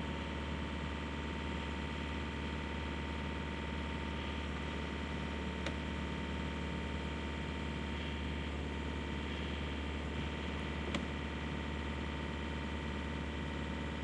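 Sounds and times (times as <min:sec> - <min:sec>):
mechanical drone with low hum: 0:00.0 - 0:14.0.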